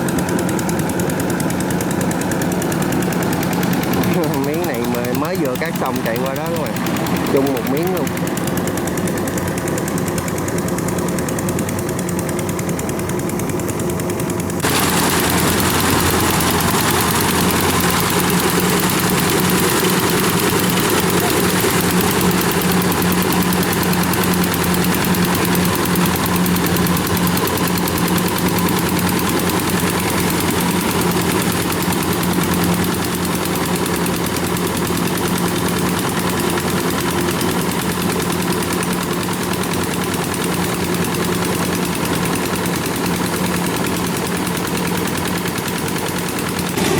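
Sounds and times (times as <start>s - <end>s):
diesel engine knocking: 0.0s - 46.9s.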